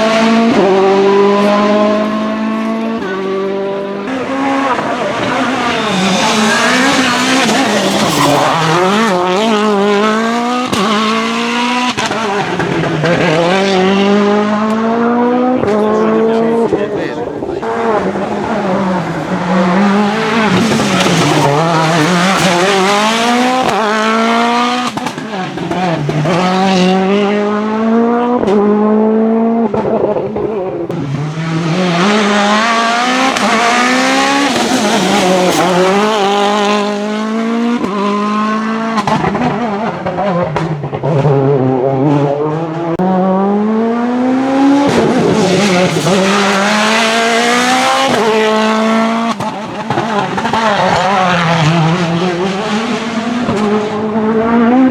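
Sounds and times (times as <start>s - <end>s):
rally car engine accelerating: 0.0s - 54.9s.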